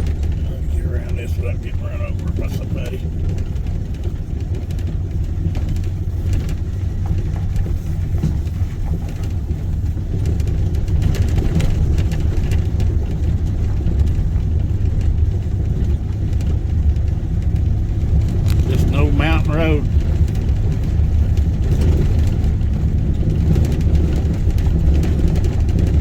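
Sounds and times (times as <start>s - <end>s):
truck engine and road rumble: 0.0s - 26.0s.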